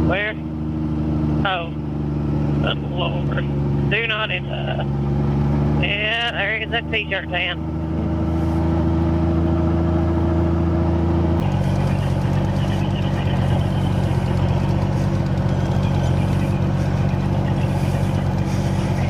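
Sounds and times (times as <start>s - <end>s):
motorhome engine running: 0.0s - 19.0s.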